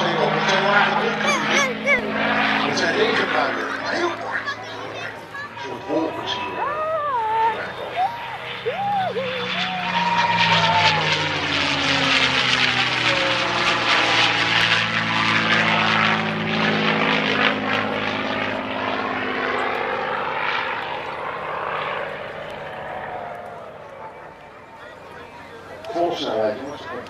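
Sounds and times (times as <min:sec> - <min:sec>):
propeller aircraft engine howling: 0:00.0 - 0:27.0.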